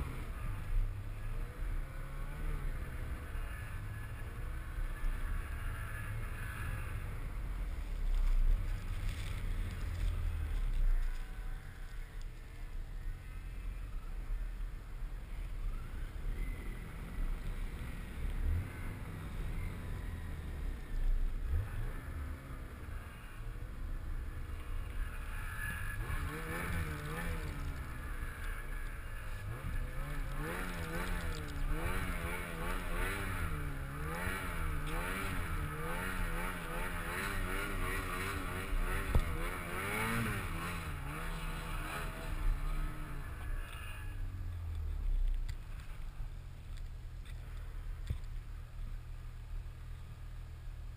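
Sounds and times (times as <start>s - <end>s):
snowmobile engine running: 0.0s - 14.6s, 15.3s - 46.2s.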